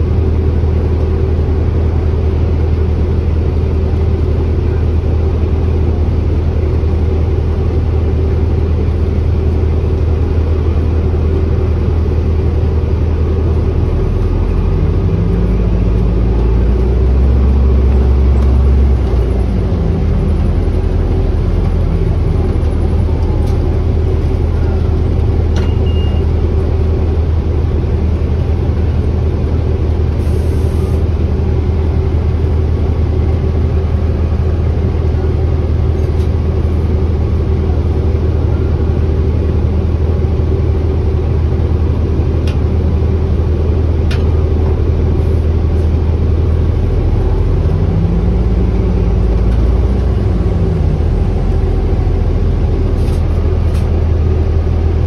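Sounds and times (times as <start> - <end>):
bus drivetrain drone: 0.0 - 55.0
road rumble: 0.0 - 55.0.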